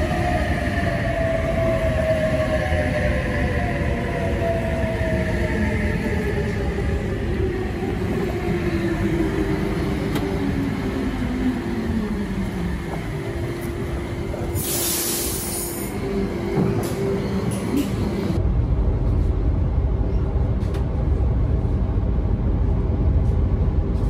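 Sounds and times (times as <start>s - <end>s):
passenger train running: 0.0s - 24.0s.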